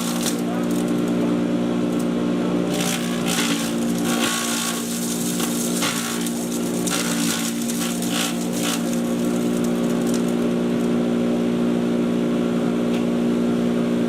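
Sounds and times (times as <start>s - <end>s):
chipper shredder running: 0.0s - 14.0s.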